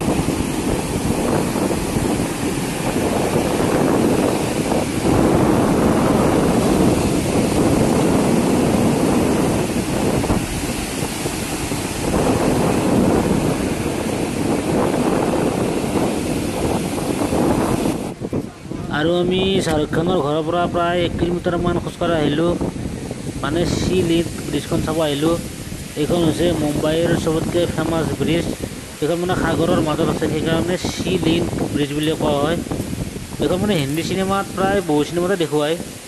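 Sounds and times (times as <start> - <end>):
sea waves: 0.0 - 36.0
wind buffeting microphone: 0.0 - 36.0.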